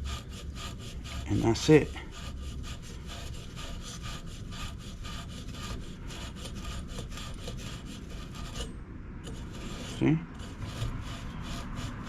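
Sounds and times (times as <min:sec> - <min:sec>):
scrubbing metal pipe: 0:00.0 - 0:12.0.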